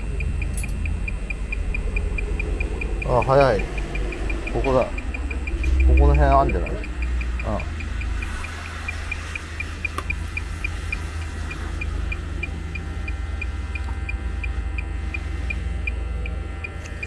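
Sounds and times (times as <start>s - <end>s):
leak detector beeping: 0.0s - 17.0s.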